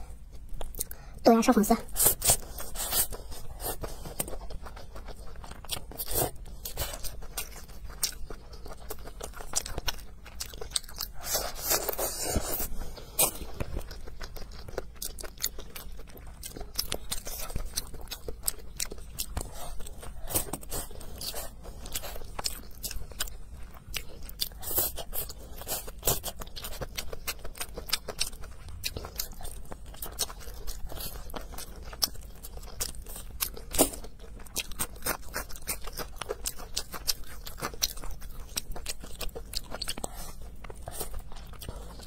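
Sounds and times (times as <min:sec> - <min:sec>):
chewing and crunching: 0:00.0 - 0:42.0.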